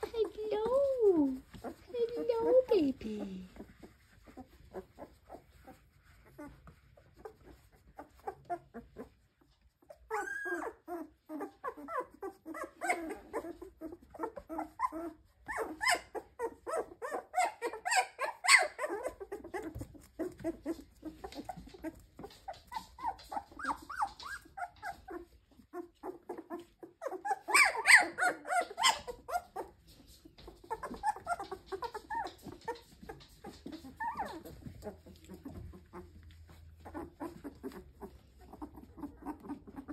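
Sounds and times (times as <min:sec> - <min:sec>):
puppies whining and yipping: 0:00.0 - 0:39.9.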